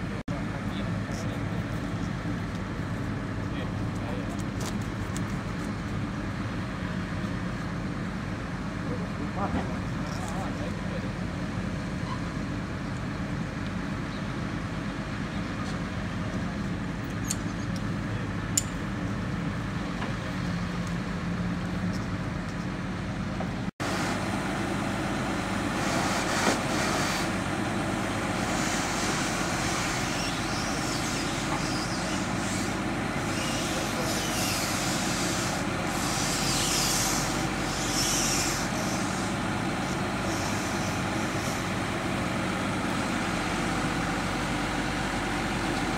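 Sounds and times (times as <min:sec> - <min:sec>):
diesel engine running: 0:00.0 - 0:45.9
loader crane working: 0:00.0 - 0:45.9.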